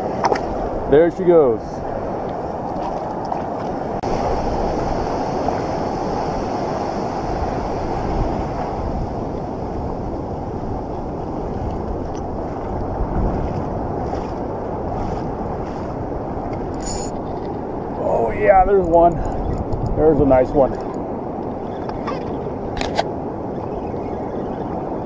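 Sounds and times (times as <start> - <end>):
ocean surf rushing: 0.0 - 25.0.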